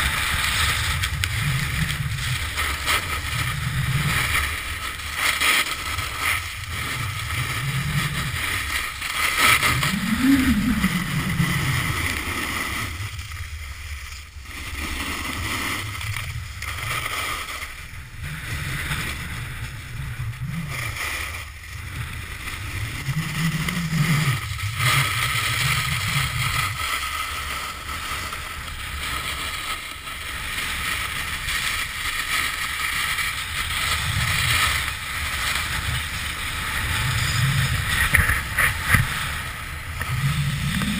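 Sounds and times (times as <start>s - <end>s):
snowboard scraping on packed snow: 0.0s - 40.9s
wind on microphone: 0.0s - 40.9s.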